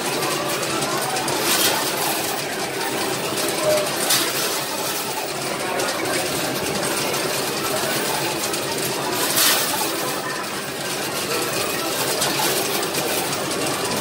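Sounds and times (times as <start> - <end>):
arcade noise: 0.0 - 14.0.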